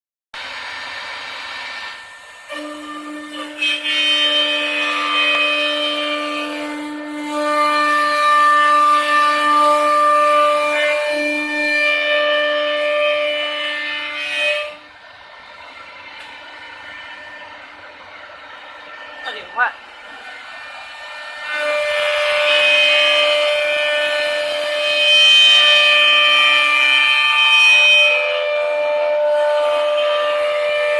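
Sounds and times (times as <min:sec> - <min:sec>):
router cutting wood: 0:00.4 - 0:30.9
router spindle whine: 0:00.4 - 0:30.9.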